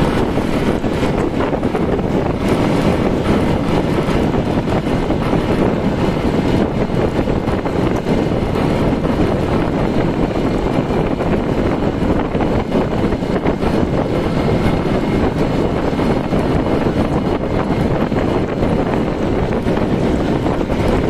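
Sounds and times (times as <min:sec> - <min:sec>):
motorcycle engine: 0:00.0 - 0:21.0
road noise: 0:00.0 - 0:21.0
wind buffeting on microphone: 0:00.0 - 0:21.0.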